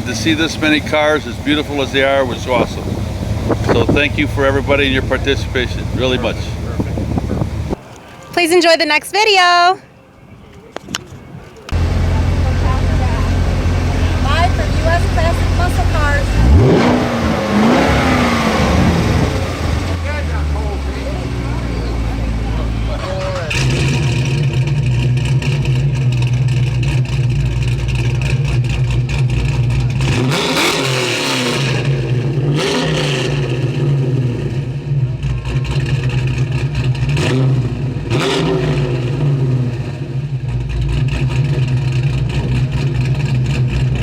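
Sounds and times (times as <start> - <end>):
car engine revving: 0.0 - 8.4, 11.7 - 44.0.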